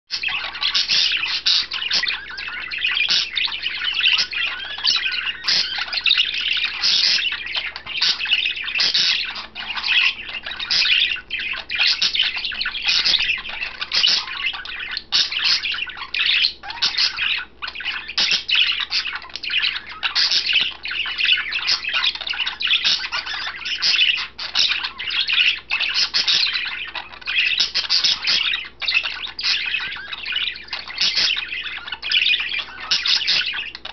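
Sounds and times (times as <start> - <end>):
budgerigar warbling: 0.1 - 33.9.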